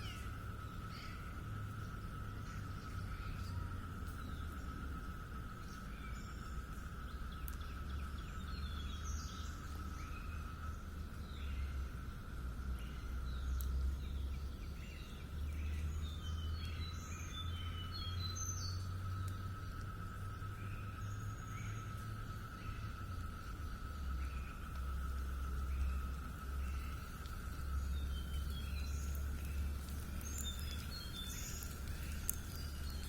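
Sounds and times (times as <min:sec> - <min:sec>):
birds chirping: 0:00.0 - 0:33.0
high-pitched insect drone: 0:00.0 - 0:33.0
low hum: 0:00.0 - 0:33.0.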